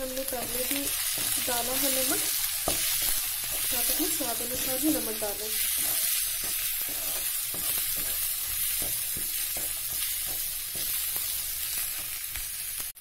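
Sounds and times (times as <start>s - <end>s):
food sizzling in oil: 0.0s - 13.0s
spatula stirring: 0.1s - 12.5s.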